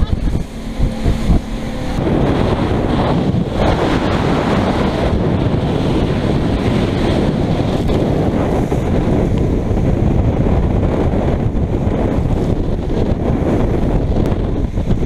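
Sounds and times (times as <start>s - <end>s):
waves splashing against boat hull: 0.0s - 15.0s
wind buffeting microphone: 0.0s - 15.0s.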